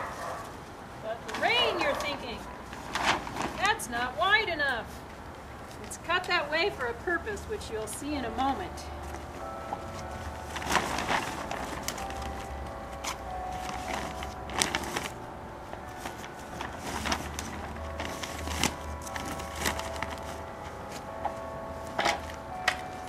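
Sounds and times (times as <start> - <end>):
plastic sheeting crinkling: 1.3 - 23.0.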